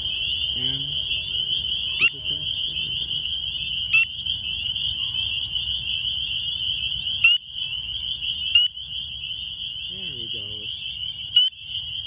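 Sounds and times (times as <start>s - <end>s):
frogs chorus: 0.0s - 12.0s.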